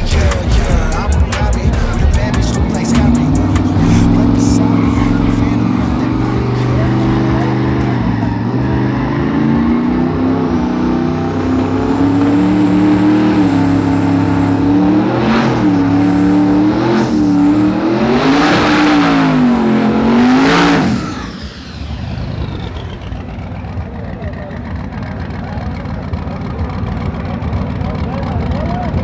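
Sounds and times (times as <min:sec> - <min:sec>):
engine revving hard: 0:00.0 - 0:23.5
high turbo whine: 0:00.0 - 0:29.0.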